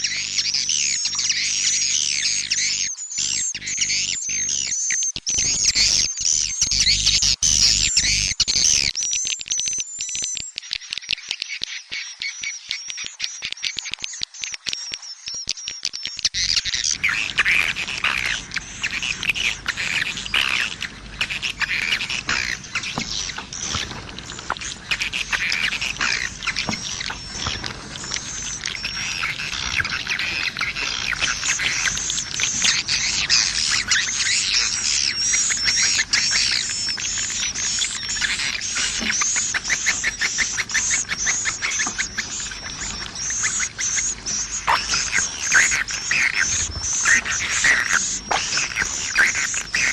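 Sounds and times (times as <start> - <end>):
birds chirping and twittering: 0.0 - 49.9.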